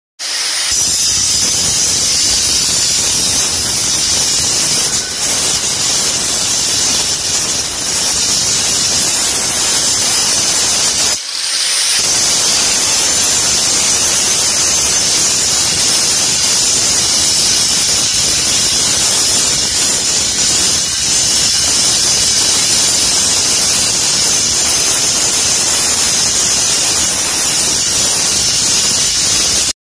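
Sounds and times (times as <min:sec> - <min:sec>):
angle grinder grinding metal: 0:00.2 - 0:29.7.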